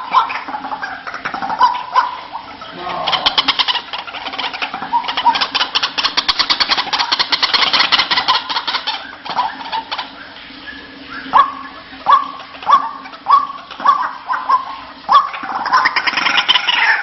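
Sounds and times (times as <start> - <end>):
waterhen calling harsh repeated notes: 0.0 - 17.0.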